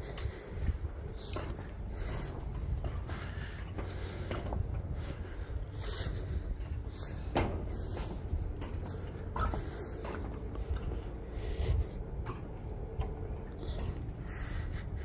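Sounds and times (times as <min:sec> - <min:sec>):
faint steady hum: 0:00.0 - 0:15.0
wind buffeting microphone: 0:00.0 - 0:15.0.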